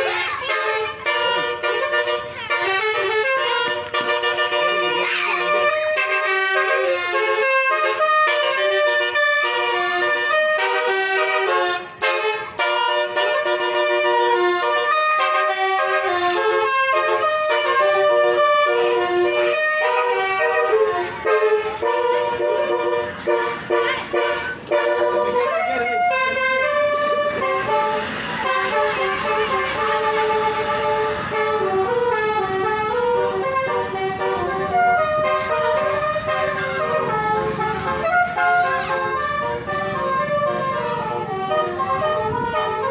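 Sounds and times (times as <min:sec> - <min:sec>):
bus horn playing a tune: 0:00.0 - 0:42.9.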